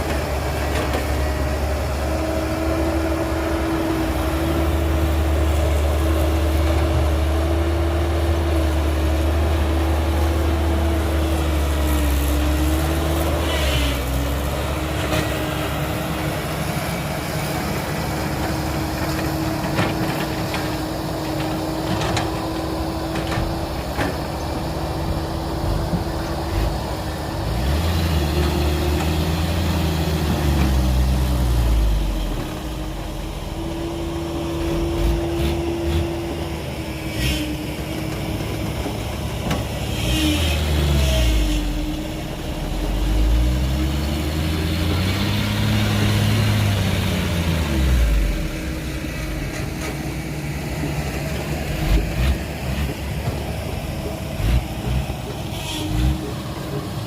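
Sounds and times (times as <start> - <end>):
engine revving: 0.0 - 20.7, 26.4 - 33.6, 34.2 - 50.0, 51.3 - 57.0
heavy diesel machinery whining: 0.0 - 57.0.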